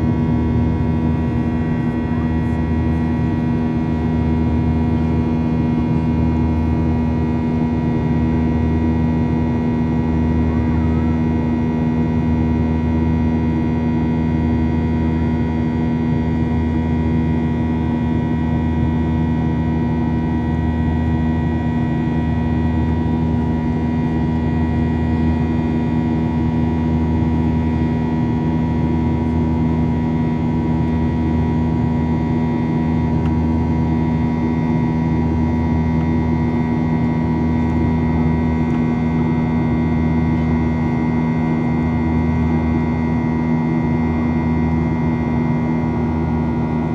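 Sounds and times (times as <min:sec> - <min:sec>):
jet engine drone in cabin: 0:00.0 - 0:46.9.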